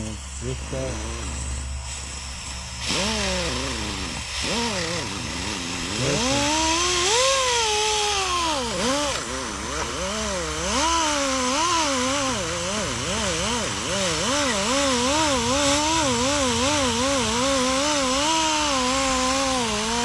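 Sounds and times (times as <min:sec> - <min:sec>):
power tool motor whine: 0:00.0 - 0:20.0
steady low hum: 0:00.0 - 0:20.0.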